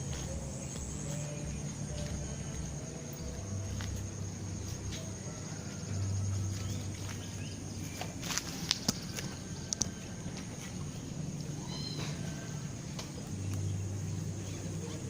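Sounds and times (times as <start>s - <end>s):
high-pitched insect trill: 0.0s - 15.0s
low steady hum: 0.0s - 15.0s.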